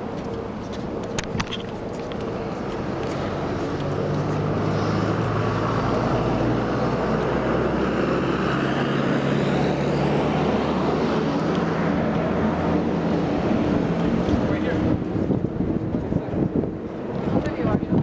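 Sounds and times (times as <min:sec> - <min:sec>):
road traffic noise: 0:00.0 - 0:18.0
vehicle engine running close by: 0:00.0 - 0:18.0.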